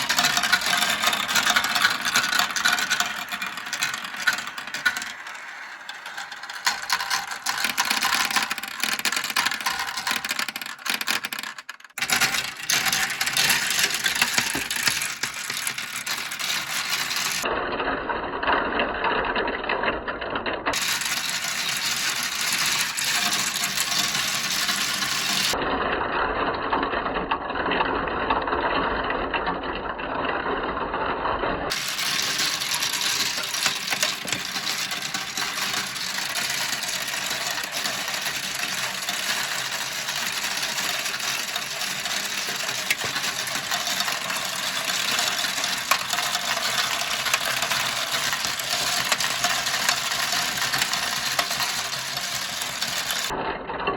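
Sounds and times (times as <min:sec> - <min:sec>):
marbles rattling down plastic track: 0:00.0 - 0:17.5, 0:20.7 - 0:25.6, 0:31.7 - 0:53.4.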